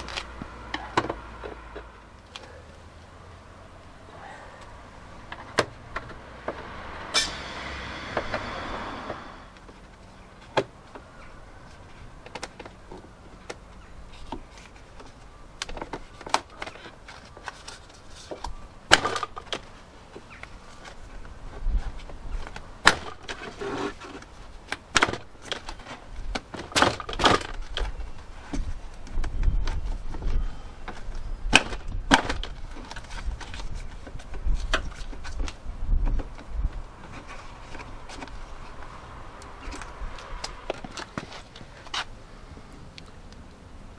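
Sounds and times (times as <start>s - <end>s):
rustle: 0.0s - 43.9s.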